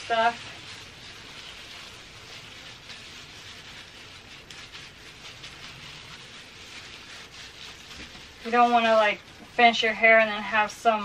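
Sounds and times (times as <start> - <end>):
faint rustles: 0.0 - 11.0
hands rubbing wet hair: 0.0 - 11.0.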